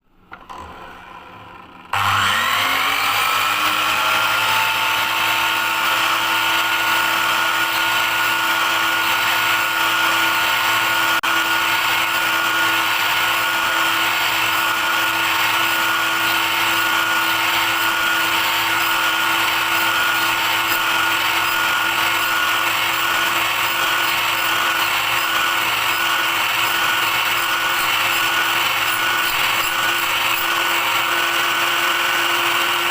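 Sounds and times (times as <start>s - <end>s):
power tool motor running: 0.5s - 32.9s.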